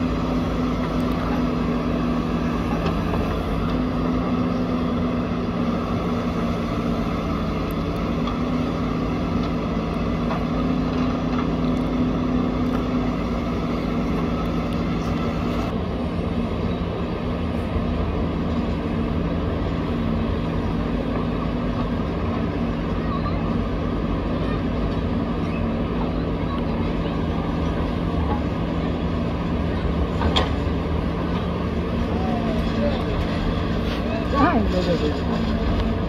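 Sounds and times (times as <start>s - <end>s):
diesel engines droning: 0.0s - 36.0s.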